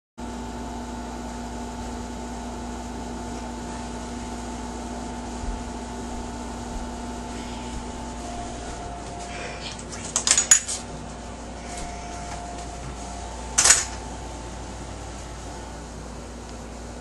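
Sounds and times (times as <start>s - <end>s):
machine hum: 0.2s - 17.0s.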